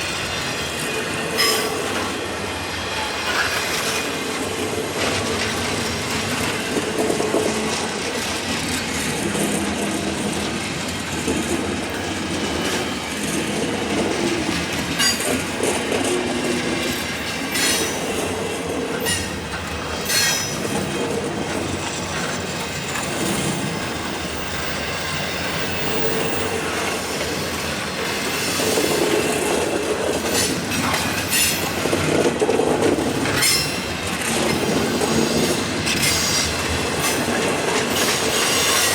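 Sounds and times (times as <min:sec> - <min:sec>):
wheels squealing on rail: 0:00.0 - 0:06.3, 0:11.9 - 0:21.2, 0:21.8 - 0:32.3, 0:32.9 - 0:38.9
freight train cars rolling: 0:00.0 - 0:38.9
wheels clicking over rail joints: 0:03.0 - 0:38.9.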